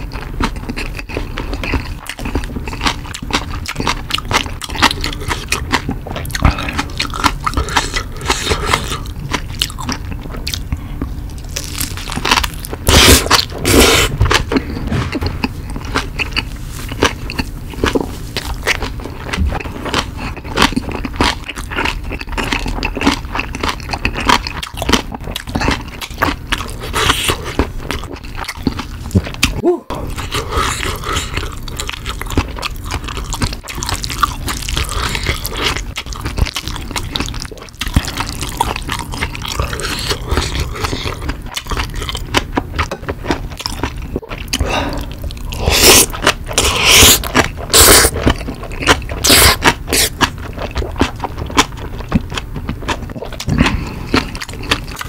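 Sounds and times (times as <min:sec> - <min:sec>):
biting into sausage: 0:00.0 - 0:55.0
chewing with mouth clicks: 0:00.0 - 0:55.0.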